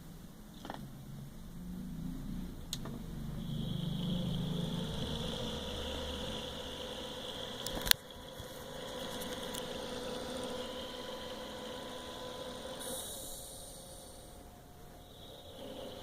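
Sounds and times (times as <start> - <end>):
computer fan whirring: 0.0 - 16.0.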